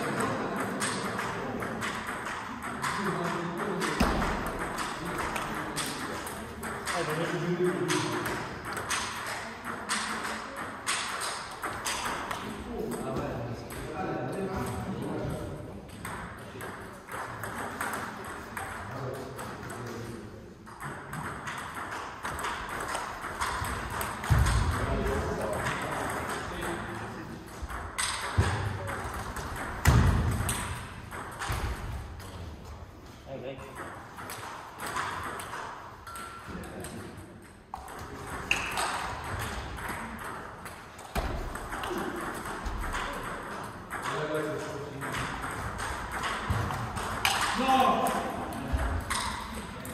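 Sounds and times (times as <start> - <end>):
table tennis ball clicking: 0.1 - 13.0, 20.7 - 32.3, 33.7 - 49.9.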